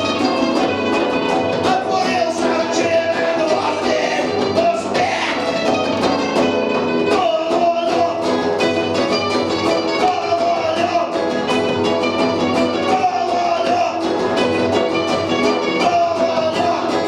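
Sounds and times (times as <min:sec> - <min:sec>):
punk rock band playing live: 0:00.0 - 0:17.0.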